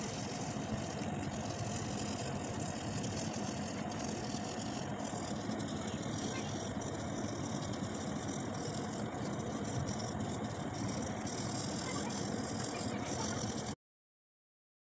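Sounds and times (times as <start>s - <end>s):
pencil scratching on paper: 0.0s - 13.8s.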